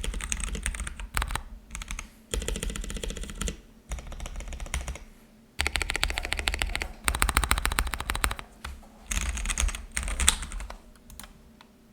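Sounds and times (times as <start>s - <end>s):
fast typing on mechanical keyboard: 0.0s - 11.4s.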